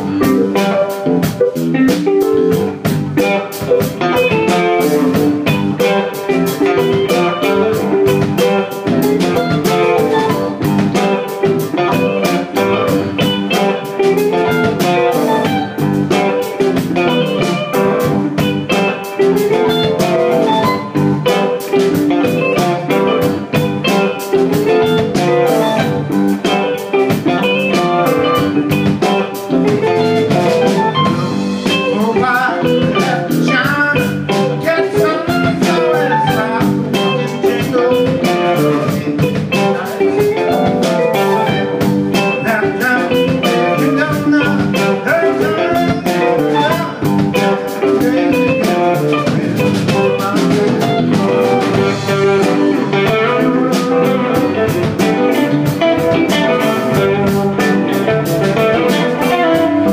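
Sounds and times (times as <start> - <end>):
electric guitar lines: 0.0 - 59.9
live rock band playing: 0.0 - 59.9
steady drum beat: 0.0 - 59.9.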